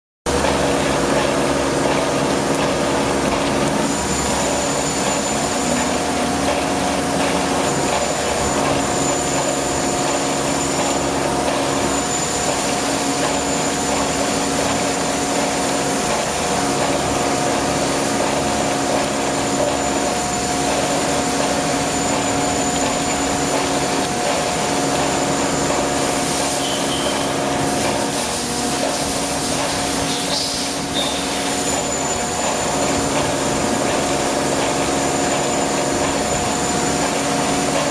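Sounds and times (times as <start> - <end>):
machine hum and whir: 0.3 - 37.9.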